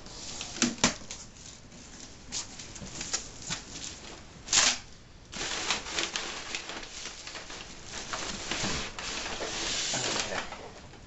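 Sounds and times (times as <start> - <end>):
packing paper rustling: 0.3 - 10.7.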